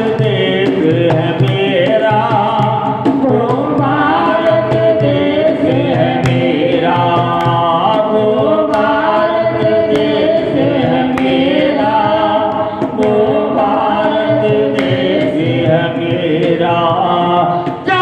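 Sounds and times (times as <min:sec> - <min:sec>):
group singing devotional song: 0:00.0 - 0:18.0
percussion beat: 0:00.0 - 0:18.0.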